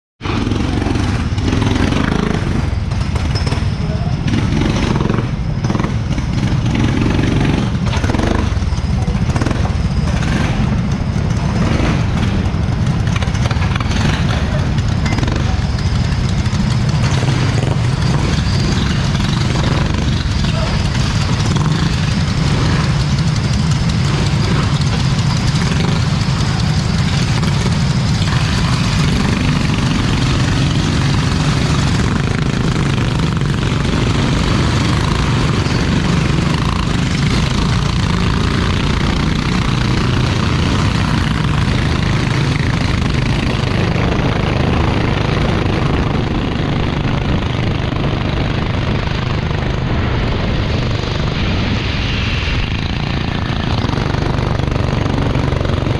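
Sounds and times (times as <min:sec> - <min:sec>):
racing kart engine droning: 0:00.2 - 0:55.9.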